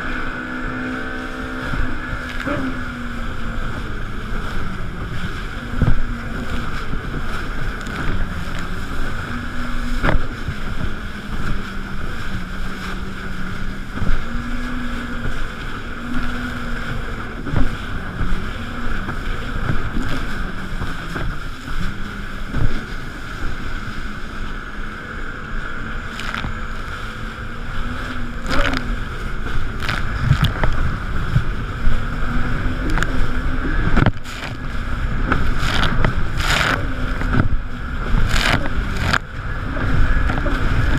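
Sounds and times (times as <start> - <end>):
hull thudding on waves: 0.0 - 40.9
jet ski engine: 0.0 - 40.9
water splashing: 0.0 - 40.9.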